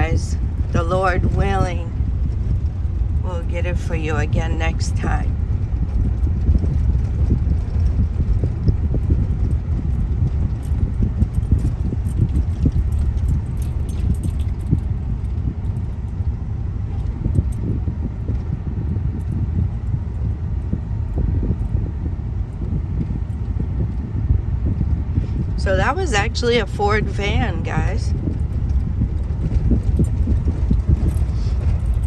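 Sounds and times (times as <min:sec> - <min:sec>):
car interior rumble: 0:00.0 - 0:32.0
light rattles and clicks: 0:00.0 - 0:32.0.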